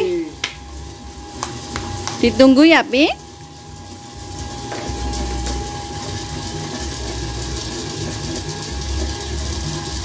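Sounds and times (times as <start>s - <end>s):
gas burner hissing: 0.0s - 10.0s.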